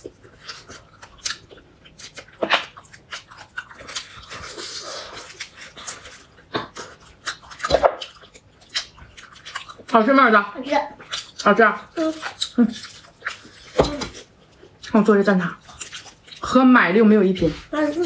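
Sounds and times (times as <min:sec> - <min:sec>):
person chewing: 0:00.0 - 0:10.0, 0:10.9 - 0:16.6.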